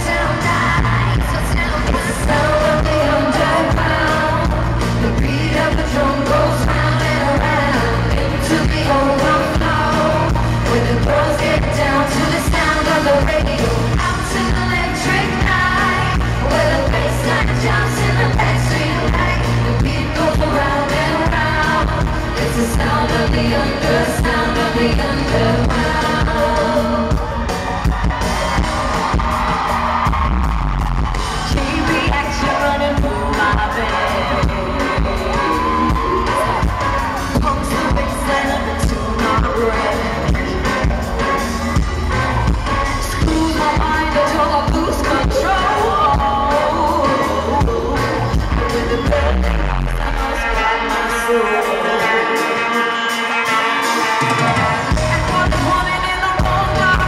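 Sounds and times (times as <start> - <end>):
band with drum and bass beat: 0.0 - 57.0
group singing pop: 0.0 - 57.0.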